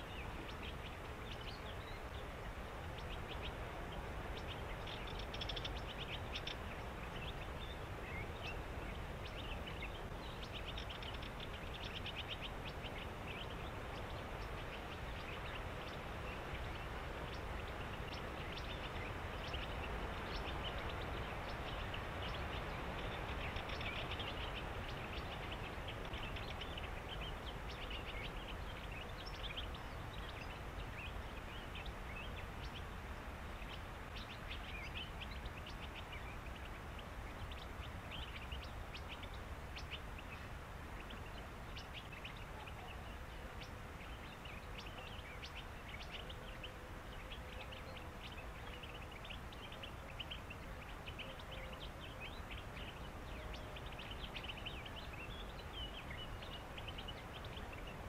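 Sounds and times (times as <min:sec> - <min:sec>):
birds chattering: 0:00.0 - 0:58.0
low background hiss: 0:00.0 - 0:58.0.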